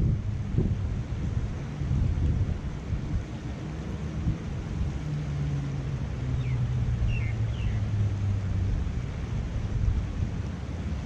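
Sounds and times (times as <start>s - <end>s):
creek water rushing: 0.0s - 11.0s
passing vehicle engine hum: 0.0s - 11.0s
wind on microphone: 0.0s - 11.0s.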